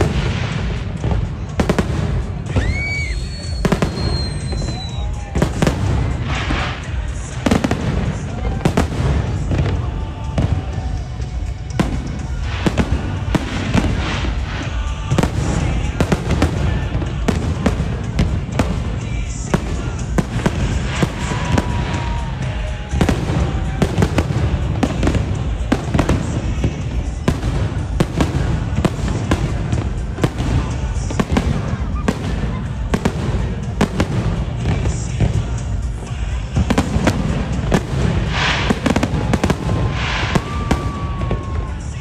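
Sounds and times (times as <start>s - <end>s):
fireworks bangs and crackles: 0.0s - 42.0s
music playing: 0.0s - 42.0s.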